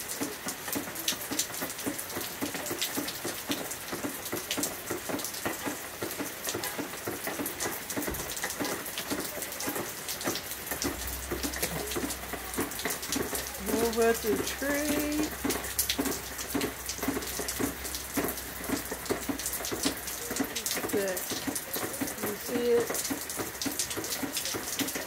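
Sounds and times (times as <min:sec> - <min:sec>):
heavy rain on concrete: 0:00.0 - 0:25.0.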